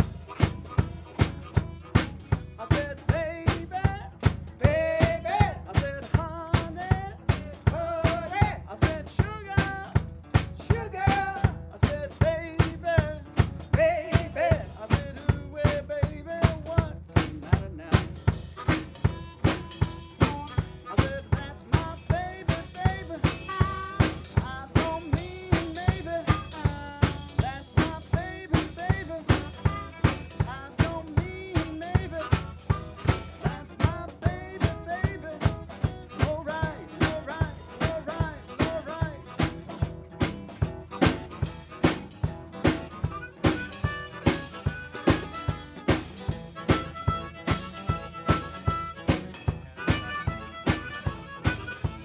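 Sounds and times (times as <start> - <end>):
harmonica: 0.0 - 52.0
snare drum beat: 0.0 - 52.0
strummed acoustic guitar: 0.0 - 52.0.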